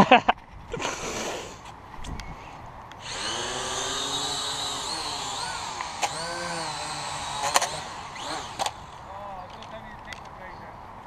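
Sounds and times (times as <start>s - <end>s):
quadcopter motors whining: 0.8s - 10.2s.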